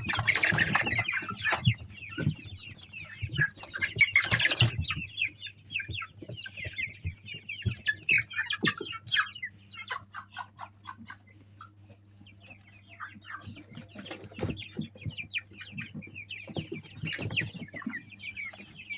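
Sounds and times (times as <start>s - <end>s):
chickens clucking and peeping: 0.0s - 18.9s.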